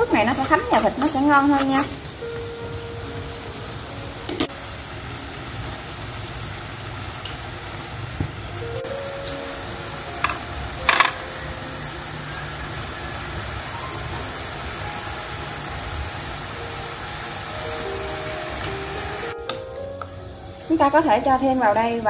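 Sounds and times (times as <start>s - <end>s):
meat sizzling in bubbling sauce: 0.0s - 22.0s.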